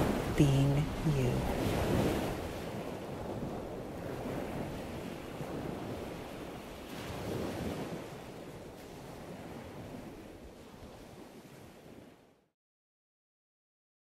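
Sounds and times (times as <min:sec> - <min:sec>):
ocean surf on beach: 0:00.0 - 0:12.4.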